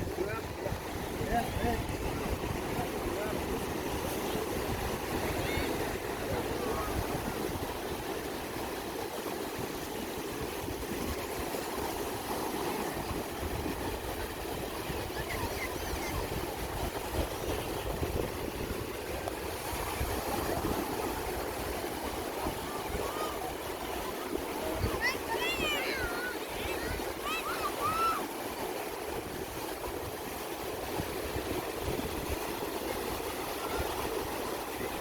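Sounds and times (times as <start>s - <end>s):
surf washing on beach: 0.0s - 35.0s
wind buffeting microphone: 0.0s - 35.0s.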